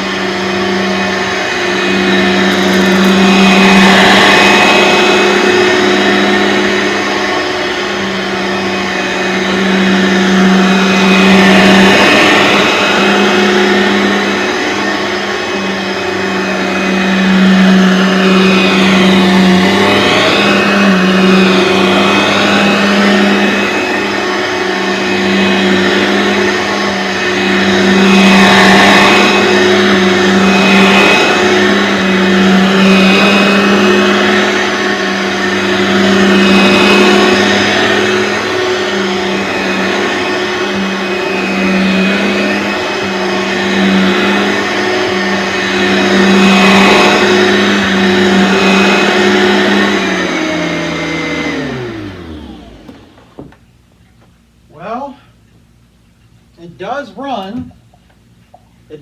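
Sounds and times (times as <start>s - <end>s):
vacuum cleaner motor humming: 0.0s - 53.7s.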